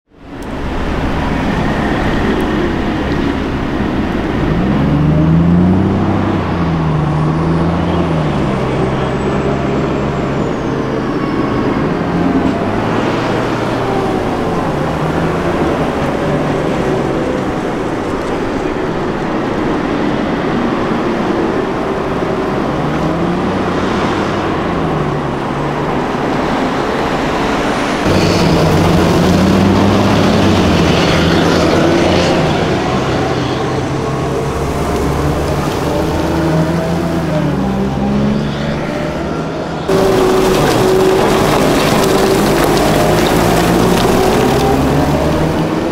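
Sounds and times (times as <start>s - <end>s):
heavy diesel vehicles driving past: 0.2s - 45.9s.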